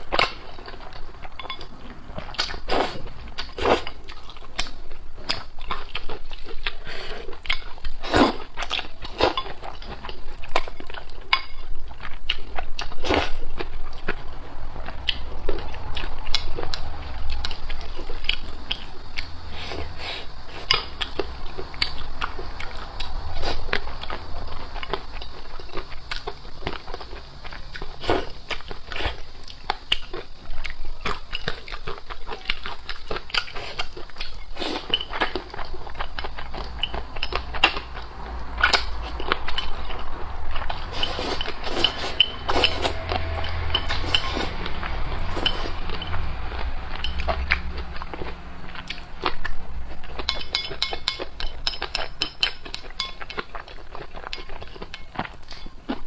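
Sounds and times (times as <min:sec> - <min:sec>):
chewing and biting: 0:00.0 - 0:56.0.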